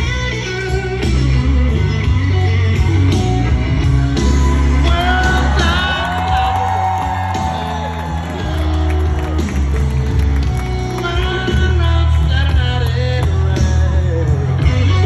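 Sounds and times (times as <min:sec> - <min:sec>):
music with heavy bass: 0:00.0 - 0:15.0.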